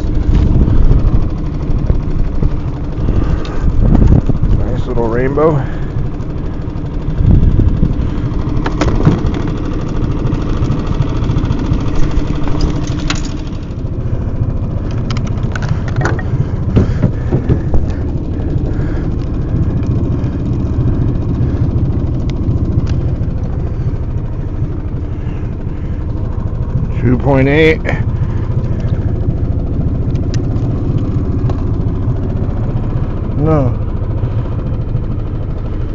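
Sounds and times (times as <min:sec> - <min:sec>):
outboard motor running: 0:00.0 - 0:35.9.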